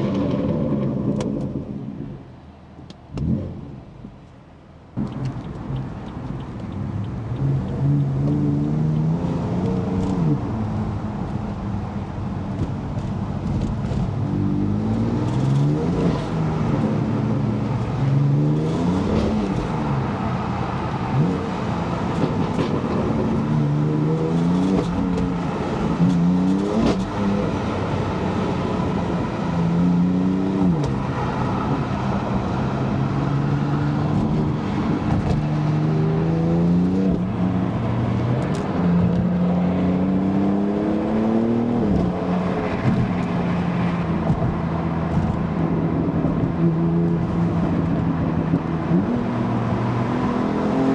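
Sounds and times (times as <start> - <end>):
car engine accelerating hard: 5.0 - 50.9.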